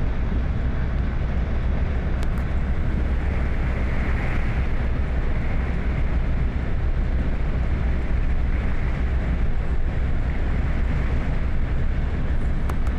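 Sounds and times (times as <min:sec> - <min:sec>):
vehicle engine and road rumble: 0:00.0 - 0:12.9.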